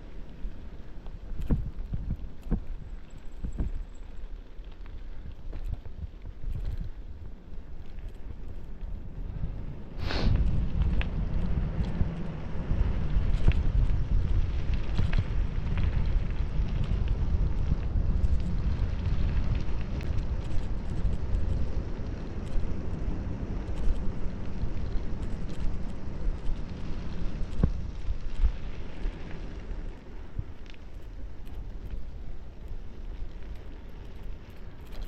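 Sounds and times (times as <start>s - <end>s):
bicycle clicks and rattles: 0.0s - 35.0s
wind buffeting microphone: 0.0s - 35.0s.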